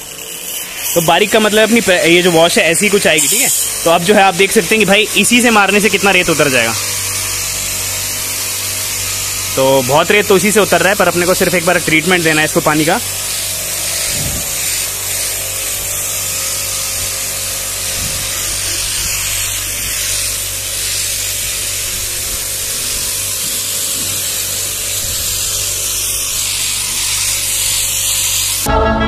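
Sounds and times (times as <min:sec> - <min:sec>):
pressure washer motor hum: 0:00.0 - 0:28.7
water jet hissing: 0:00.0 - 0:28.7.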